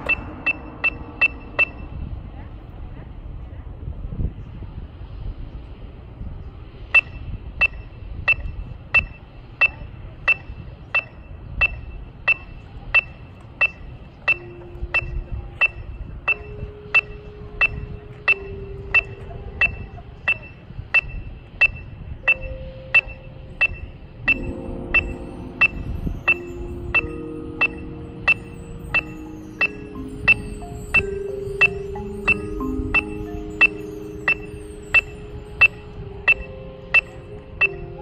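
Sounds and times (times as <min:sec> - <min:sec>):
electronic metronome clicking: 0:00.0 - 0:01.9, 0:07.0 - 0:38.0.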